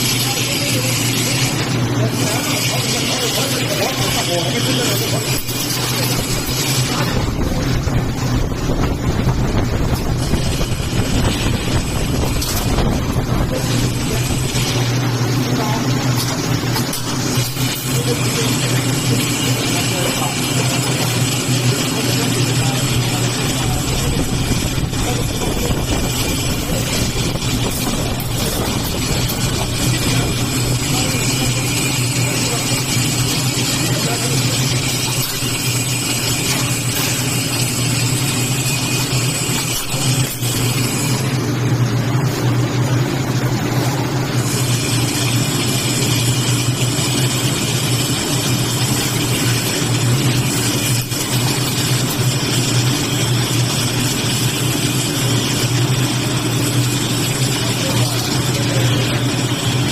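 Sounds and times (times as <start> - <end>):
bending machine motor humming: 0.0 - 59.9.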